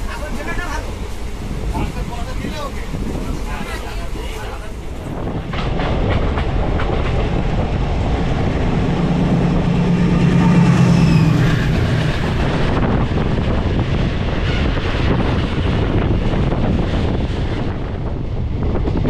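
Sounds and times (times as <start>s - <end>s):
diesel locomotive engine drone: 0.0s - 19.0s
train rumble and clatter: 0.0s - 19.0s.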